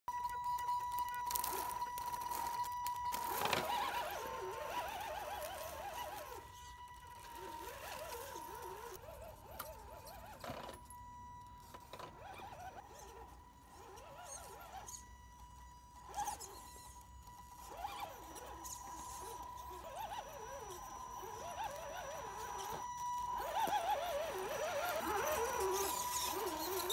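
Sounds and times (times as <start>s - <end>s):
electric motor whining: 0.1s - 26.9s.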